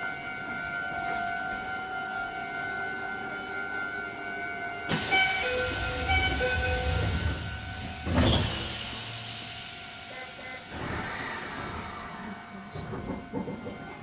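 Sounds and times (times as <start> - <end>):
electric train running: 0.0 - 14.0.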